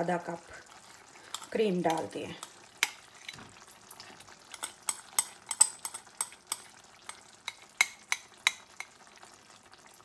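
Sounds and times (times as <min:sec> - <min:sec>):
food sizzling and popping in oil: 0:00.0 - 0:10.0.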